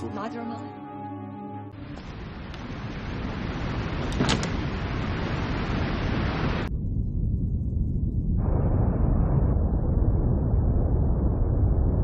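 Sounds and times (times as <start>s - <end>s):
low rumble: 1.8s - 12.0s.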